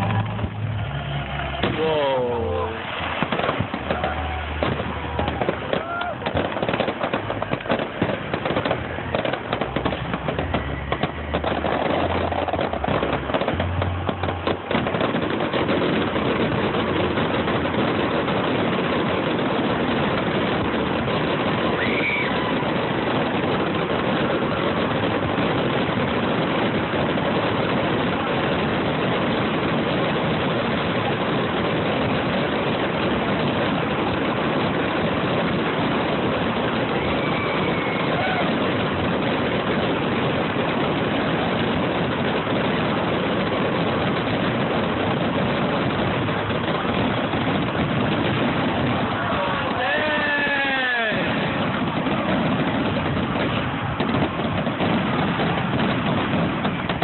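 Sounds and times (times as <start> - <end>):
fireworks exploding: 0.0 - 57.0.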